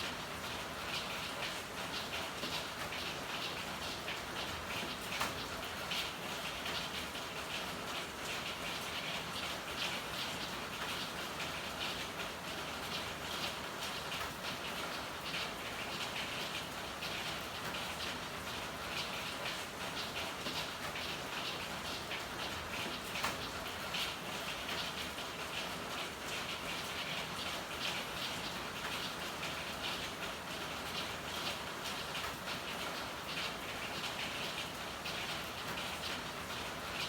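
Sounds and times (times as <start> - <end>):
rain on hard surfaces: 0.0 - 37.0.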